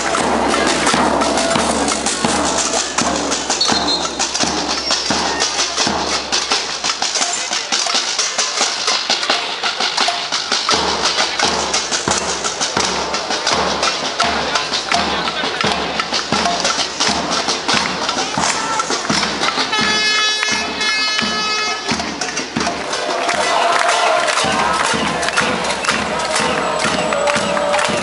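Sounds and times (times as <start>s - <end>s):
crowd banging pots and pans: 0.0s - 28.0s.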